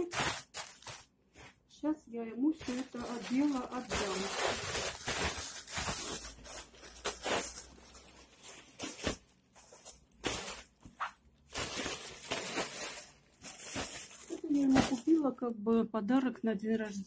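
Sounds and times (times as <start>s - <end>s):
plastic bags rustling: 0.0s - 1.6s, 2.4s - 15.5s.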